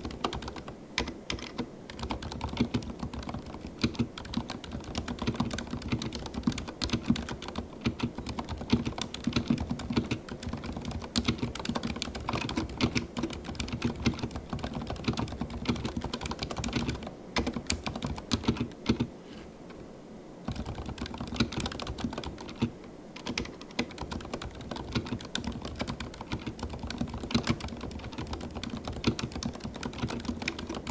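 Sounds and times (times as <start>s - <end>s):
mechanical keyboard typing: 0.0s - 19.1s, 20.5s - 30.9s.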